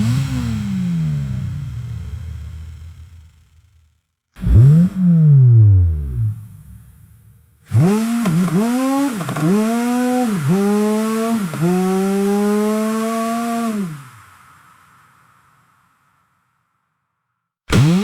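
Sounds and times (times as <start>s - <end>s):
car engine revving: 0.0s - 3.7s, 4.4s - 15.4s, 17.7s - 18.0s.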